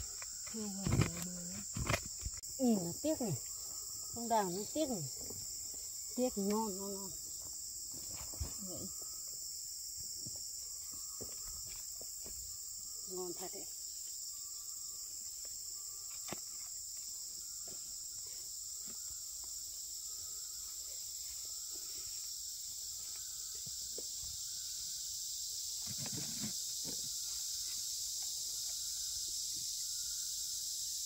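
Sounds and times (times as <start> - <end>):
forest insects droning: 0.0 - 31.0.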